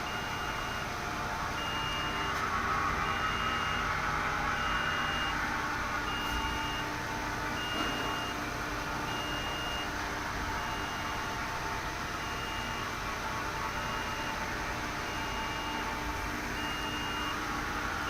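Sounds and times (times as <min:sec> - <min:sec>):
machine hum and fan noise: 0:00.0 - 0:18.0.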